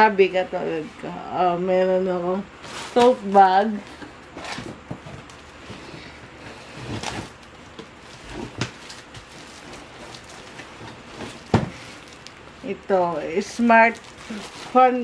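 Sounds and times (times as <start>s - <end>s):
plastic and cardboard rustling: 2.6s - 15.0s.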